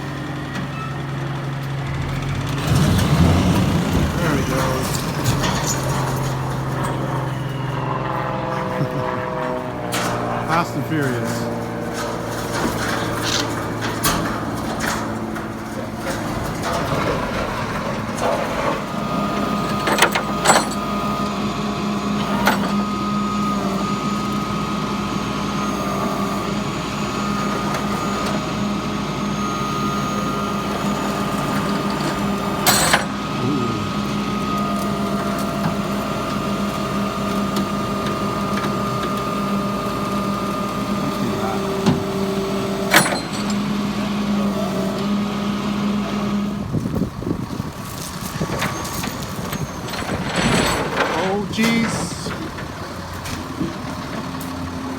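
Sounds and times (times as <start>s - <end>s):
truck engine running with whine: 0.0s - 54.9s.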